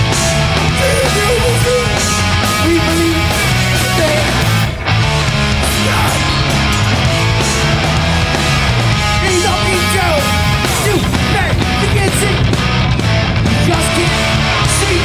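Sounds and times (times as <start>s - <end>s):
live punk band playing: 0.0s - 15.0s.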